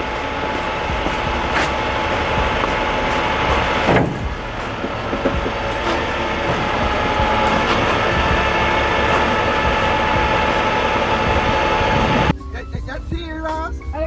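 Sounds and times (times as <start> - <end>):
truck diesel engine droning: 0.0 - 12.3.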